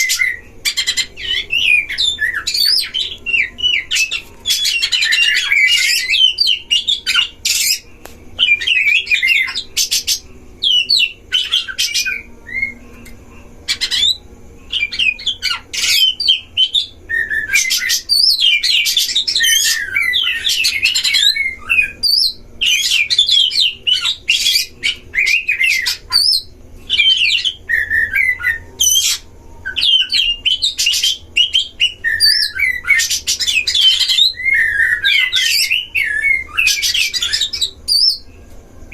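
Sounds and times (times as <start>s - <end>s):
birds singing whistled phrases: 0.0s - 38.9s.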